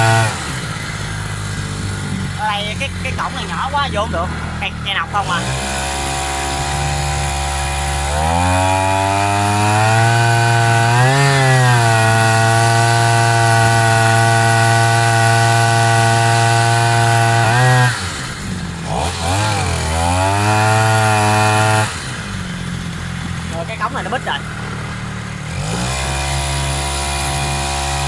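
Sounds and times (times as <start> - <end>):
small two-stroke engine revving: 0.0 - 28.0.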